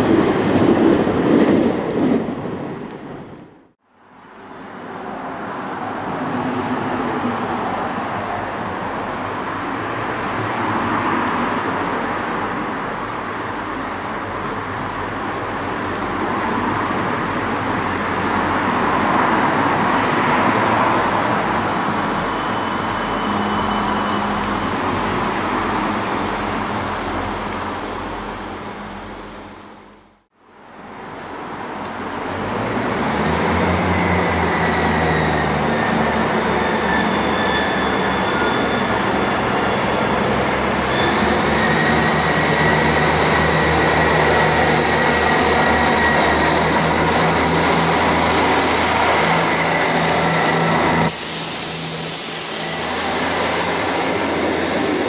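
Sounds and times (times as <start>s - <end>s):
train wheels rumbling on rails: 0.0s - 3.7s, 4.9s - 30.2s, 30.8s - 55.0s.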